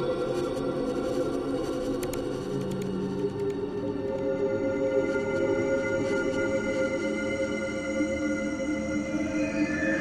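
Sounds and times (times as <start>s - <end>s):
eerie synthetic wind drone: 0.0s - 10.0s.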